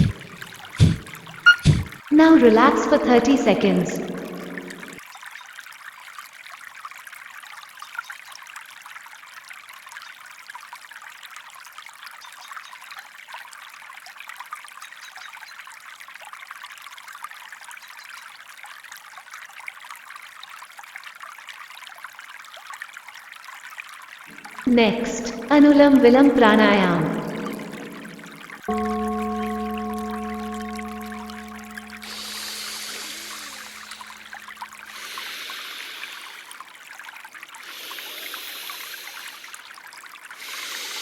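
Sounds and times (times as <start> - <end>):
stream water trickling: 0.0 - 41.0.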